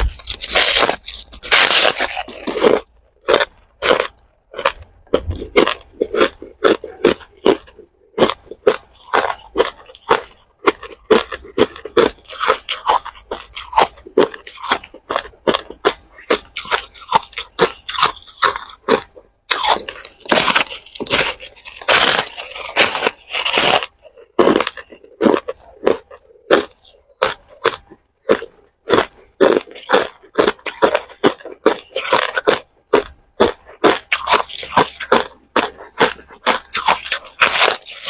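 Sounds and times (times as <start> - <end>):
ice cubes crunched by teeth: 0.0 - 38.0.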